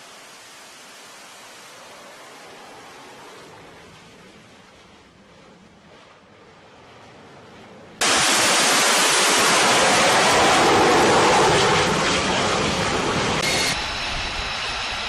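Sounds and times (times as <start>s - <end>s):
jet engine roaring: 0.1s - 15.0s.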